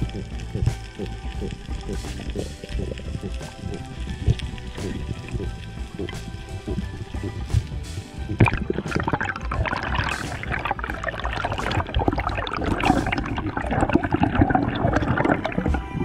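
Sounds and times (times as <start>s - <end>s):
underwater bubbling: 0.0s - 16.0s.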